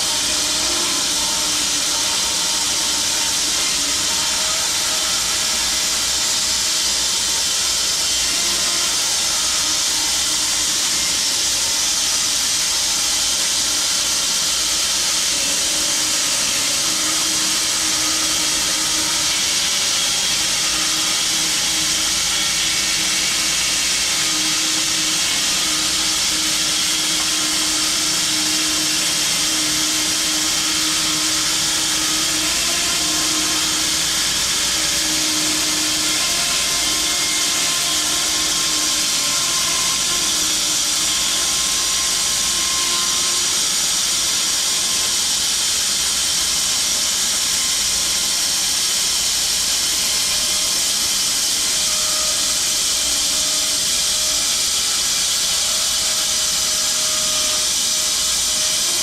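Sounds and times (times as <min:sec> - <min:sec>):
bandsaw blade hissing through log: 0:00.0 - 0:59.0.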